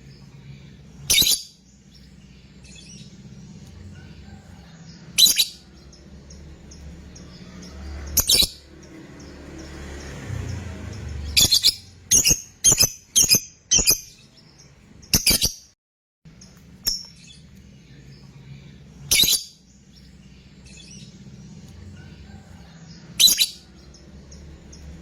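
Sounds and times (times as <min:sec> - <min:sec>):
bird high-pitched chirps: 0:00.0 - 0:04.2, 0:04.8 - 0:09.4, 0:10.4 - 0:15.7, 0:16.3 - 0:22.2, 0:23.0 - 0:25.0.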